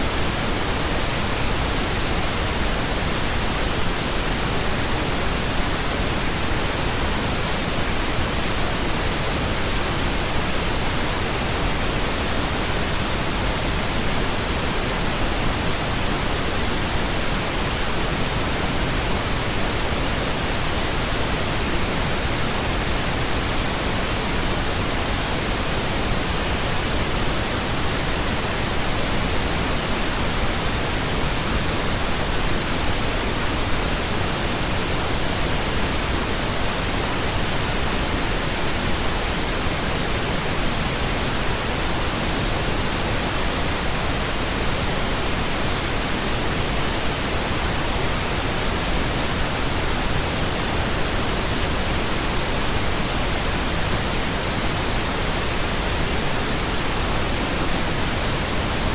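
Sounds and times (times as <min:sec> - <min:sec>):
pink noise hiss: 0:00.0 - 0:58.9.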